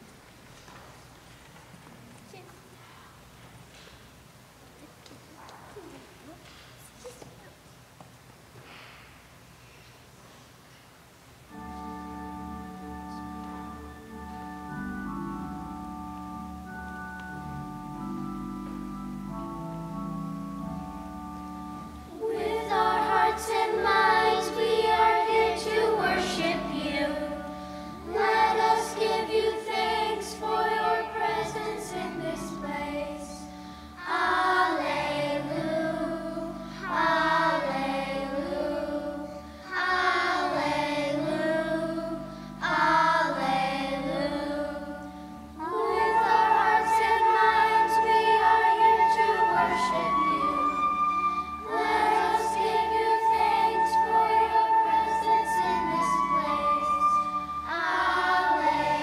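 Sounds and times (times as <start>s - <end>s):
children's choir singing a hymn: 11.5s - 59.0s
sustained piano accompaniment: 11.5s - 59.0s.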